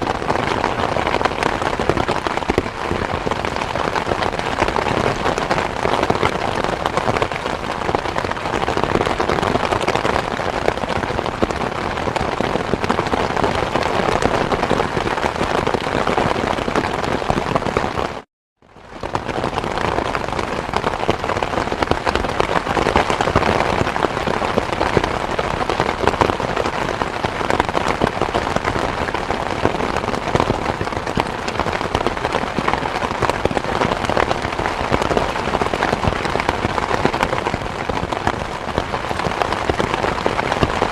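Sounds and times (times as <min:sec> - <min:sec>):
dense rain falling: 0:00.0 - 0:40.9.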